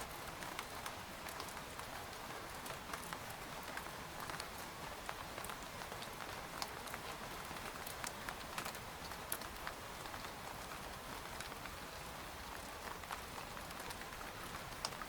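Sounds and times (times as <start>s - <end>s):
rain hissing on a tent: 0.0s - 15.0s
raindrops ticking on fabric: 0.0s - 15.0s.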